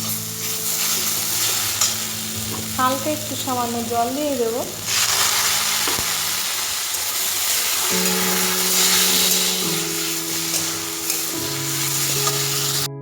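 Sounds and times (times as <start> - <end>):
stirring in a pan: 0.0 - 12.9
vegetables sizzling in a pan: 0.0 - 12.9
background music of held notes: 0.0 - 13.0.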